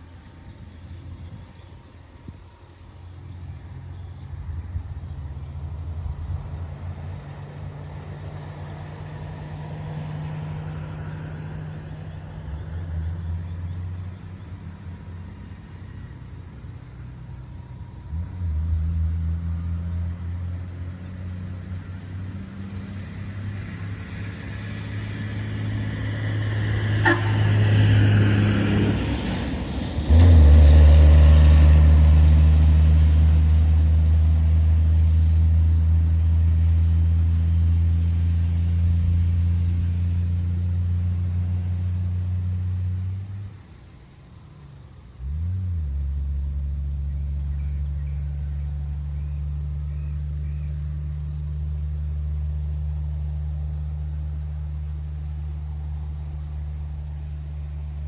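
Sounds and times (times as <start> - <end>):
dump truck engine droning: 0.0 - 58.0.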